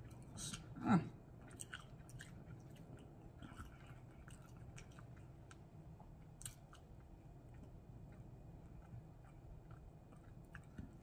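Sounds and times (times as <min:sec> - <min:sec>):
close chewing: 0:00.0 - 0:11.0.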